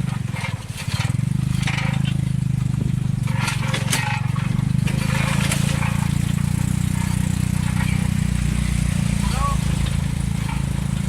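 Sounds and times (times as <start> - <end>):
knocks and rattles from bumps: 0.0 - 11.0
tuk-tuk engine running: 0.0 - 11.0.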